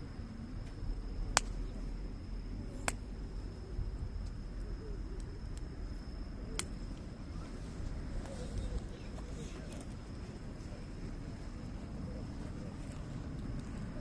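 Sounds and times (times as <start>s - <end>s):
wood fire crackling: 0.6s - 14.0s.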